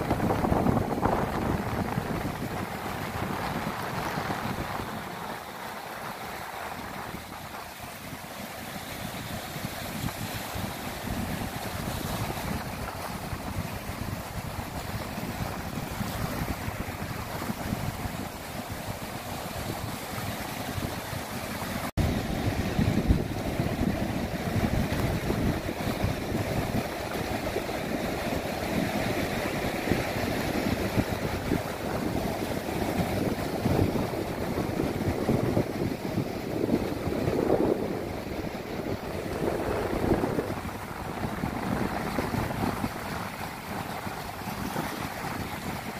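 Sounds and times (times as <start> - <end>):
surf washing up a beach: 0.0 - 45.9
wind buffeting microphone: 0.0 - 45.9.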